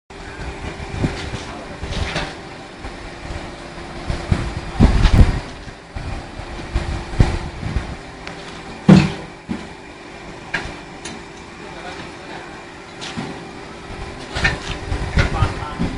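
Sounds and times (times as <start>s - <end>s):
concrete pump humming: 0.1s - 15.9s.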